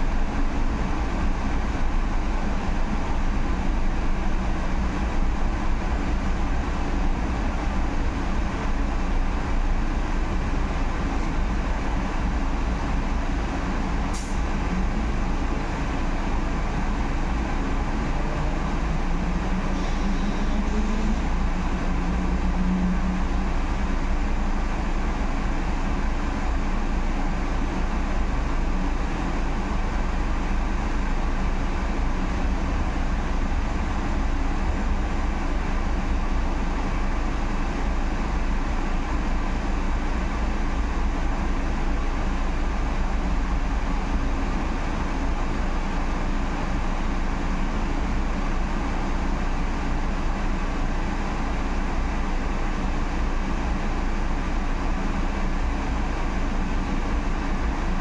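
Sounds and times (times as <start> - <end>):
bus road and tyre rumble: 0.0 - 58.0.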